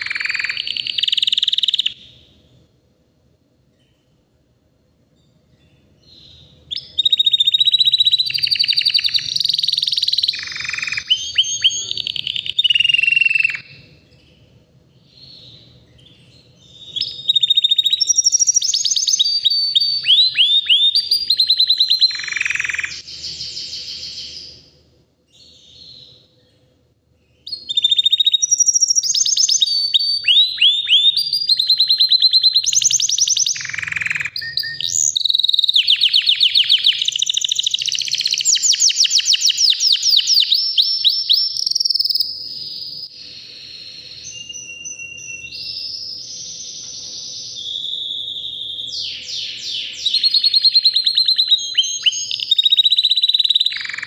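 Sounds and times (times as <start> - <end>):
canary singing trills: 0.0 - 2.6, 5.2 - 54.0.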